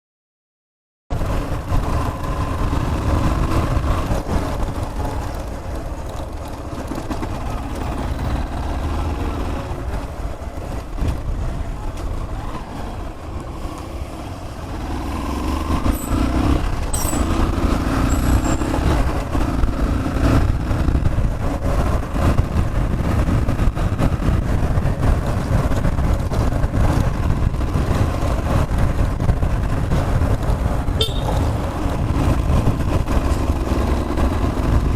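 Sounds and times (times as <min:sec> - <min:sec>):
vehicle engine and road noise: 0:01.1 - 0:34.9.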